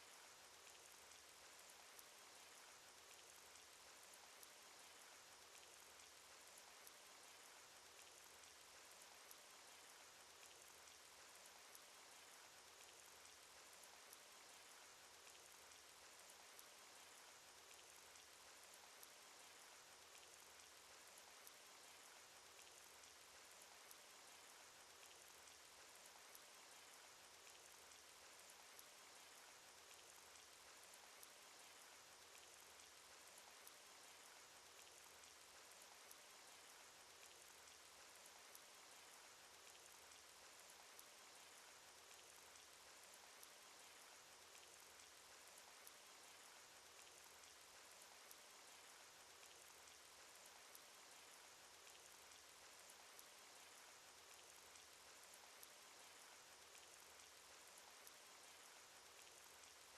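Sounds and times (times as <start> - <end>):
faint rain hiss: 0.0 - 59.9
raindrop ticks: 0.1 - 59.9.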